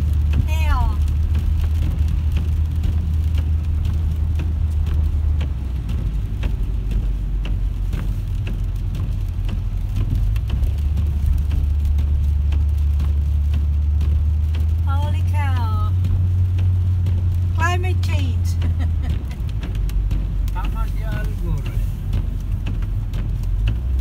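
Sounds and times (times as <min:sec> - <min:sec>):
car driving on slushy road: 0:00.0 - 0:24.0
raindrops ticking on car: 0:00.0 - 0:24.0.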